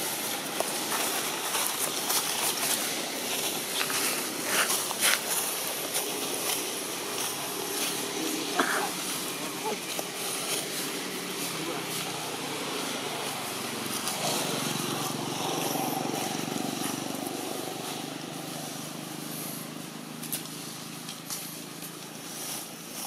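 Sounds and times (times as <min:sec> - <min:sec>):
vehicle engine passing: 0:00.0 - 0:22.5.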